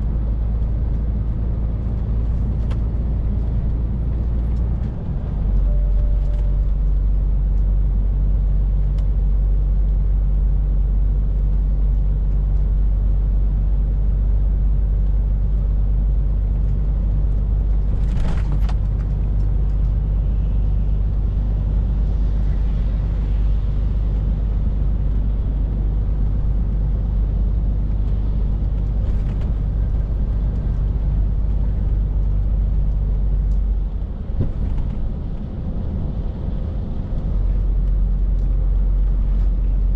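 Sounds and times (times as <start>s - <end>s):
lorry diesel engine droning: 0.0s - 39.9s
road rumble: 0.0s - 39.9s.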